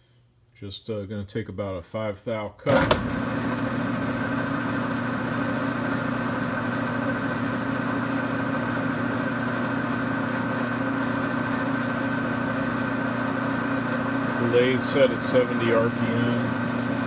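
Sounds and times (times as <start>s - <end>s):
lathe motor and gear hum: 2.7s - 17.0s.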